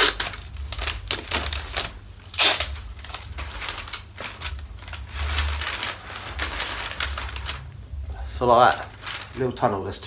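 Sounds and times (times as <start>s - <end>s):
paper crinkling and crackling: 0.0s - 10.0s.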